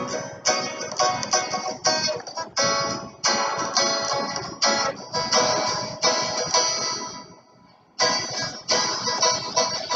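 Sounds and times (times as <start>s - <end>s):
background music of plucked chords: 0.0s - 9.9s.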